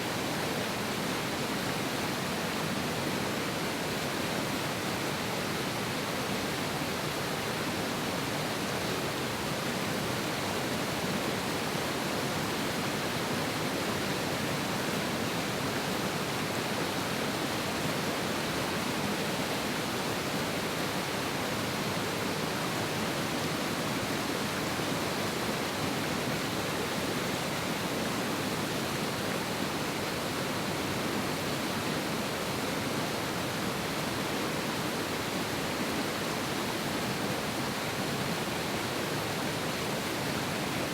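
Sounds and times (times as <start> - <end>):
river water rushing: 0.1 - 40.9.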